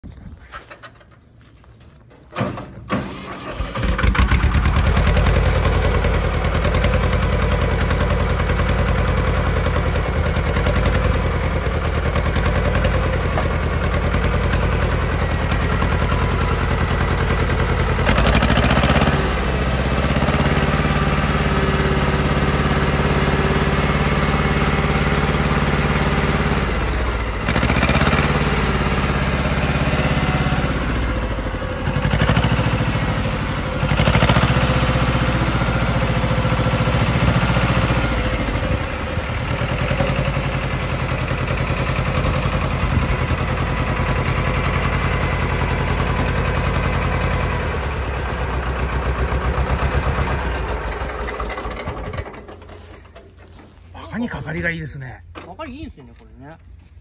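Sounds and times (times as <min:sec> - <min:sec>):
tractor diesel engine running: 0:00.4 - 0:57.0.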